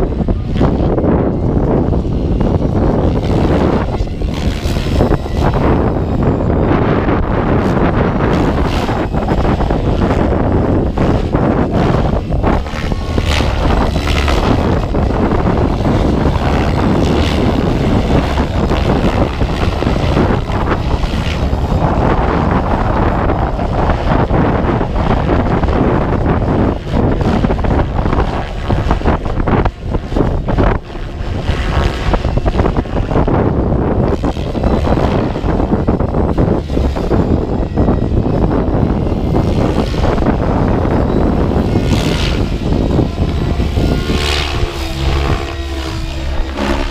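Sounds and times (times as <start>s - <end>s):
electric model helicopter flying: 0.0s - 46.9s
wind buffeting microphone: 0.0s - 46.9s.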